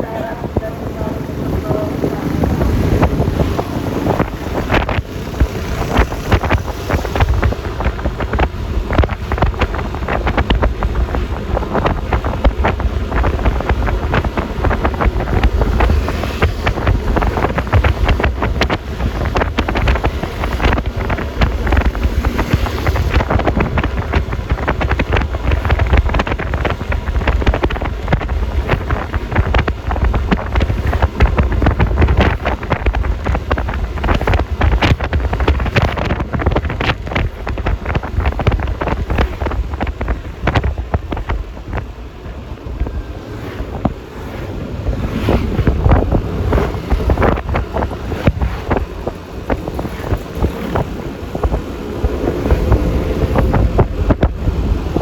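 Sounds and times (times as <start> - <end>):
road noise rumble: 0.0 - 55.0
wind buffeting microphone: 0.0 - 55.0.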